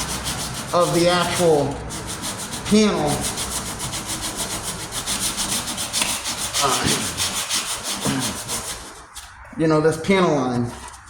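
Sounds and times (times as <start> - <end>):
sandpaper rubbing on metal: 0.0 - 11.0.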